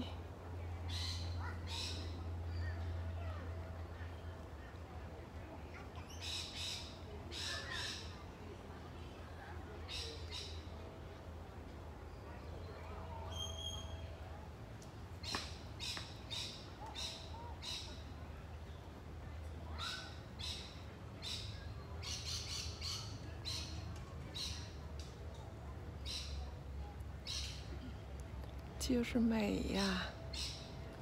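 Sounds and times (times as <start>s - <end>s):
steady low background hum: 0.0s - 31.0s.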